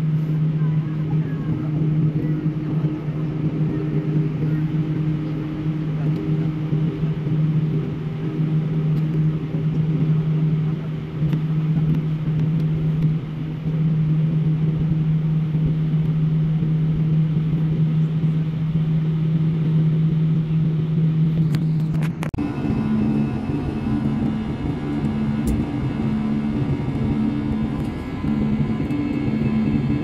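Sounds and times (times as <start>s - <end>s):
airliner engines droning in cabin: 0.0s - 30.0s.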